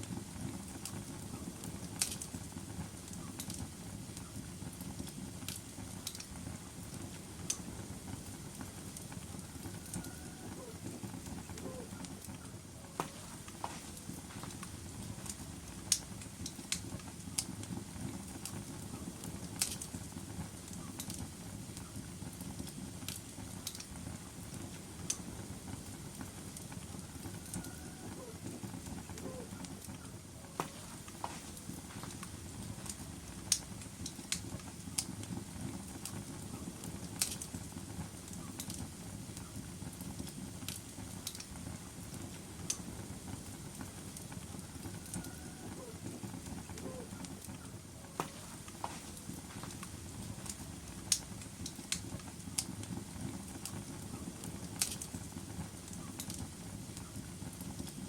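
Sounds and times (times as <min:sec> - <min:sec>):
fire flames rumbling: 0:00.0 - 0:58.0
logs crackling and popping: 0:00.0 - 0:58.0.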